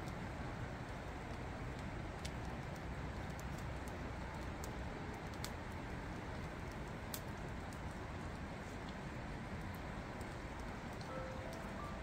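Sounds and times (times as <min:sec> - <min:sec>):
fire crackling and popping: 0:00.0 - 0:12.0
steady rushing noise: 0:00.0 - 0:12.0.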